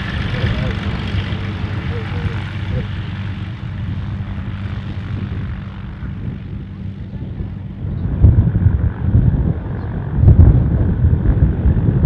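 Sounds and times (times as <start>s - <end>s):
faint propeller aircraft engine: 0.0s - 12.0s
wind buffeting microphone: 0.0s - 12.0s.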